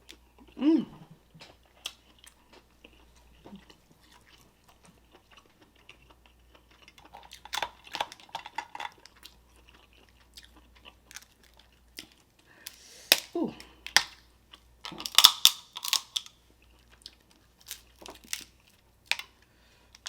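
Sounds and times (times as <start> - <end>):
crab shell crunching while chewing: 1.4 - 20.0.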